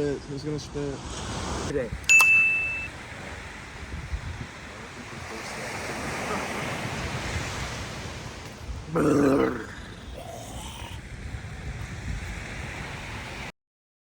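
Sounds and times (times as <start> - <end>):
ocean surf washing: 0.2 - 13.5
wind noise on microphone: 0.7 - 13.5.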